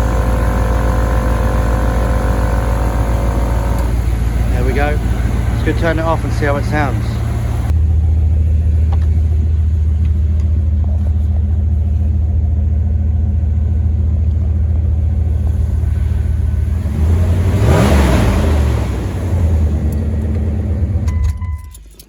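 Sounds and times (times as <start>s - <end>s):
pickup engine idling: 0.0s - 21.2s.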